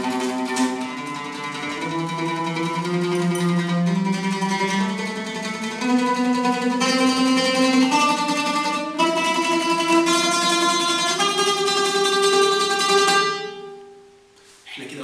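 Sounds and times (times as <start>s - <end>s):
oud playing held notes: 0.0s - 14.0s.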